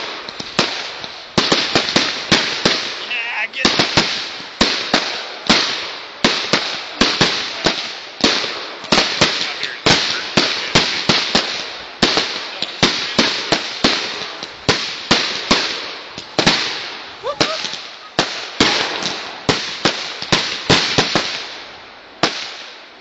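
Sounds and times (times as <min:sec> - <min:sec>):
fireworks banging and crackling: 0:00.0 - 0:23.0.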